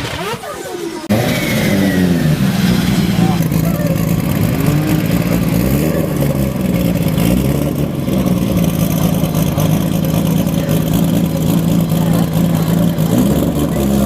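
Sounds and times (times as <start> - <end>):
turbocharged car engine revving: 0.0 - 14.0.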